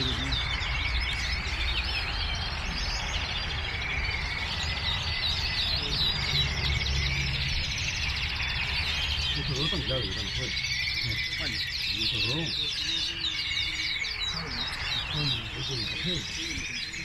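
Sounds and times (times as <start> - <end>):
canaries chirping: 0.0 - 17.0.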